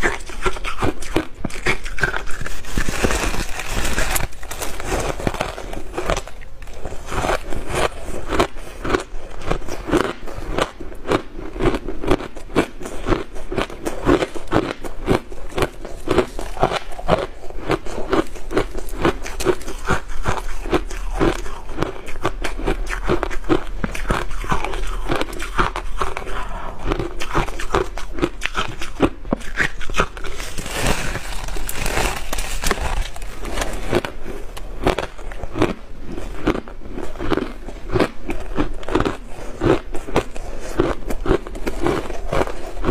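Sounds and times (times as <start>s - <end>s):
ice crunching between teeth: 0.0s - 42.9s.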